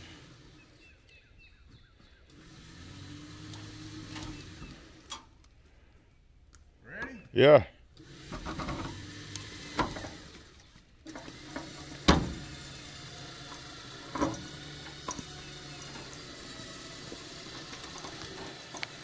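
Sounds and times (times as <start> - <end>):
vehicle engine running: 0.0 - 5.1, 8.0 - 19.0.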